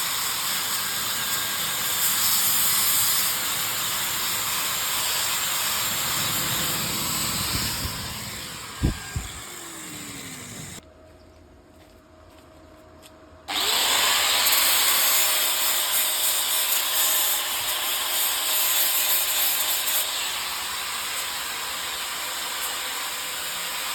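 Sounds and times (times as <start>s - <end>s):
arc welding hiss: 0.0s - 10.8s, 14.4s - 23.9s.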